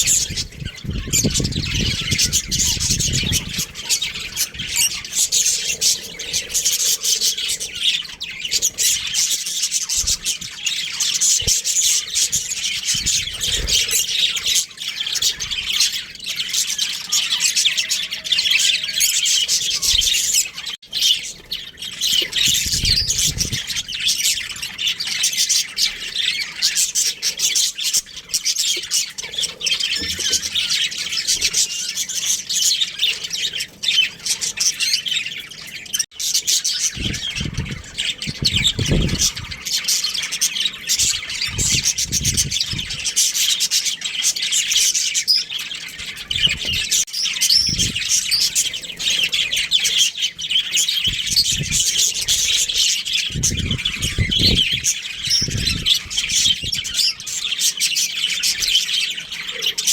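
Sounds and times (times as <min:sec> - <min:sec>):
budgerigars chattering and chirping: 0:00.0 - 0:59.9.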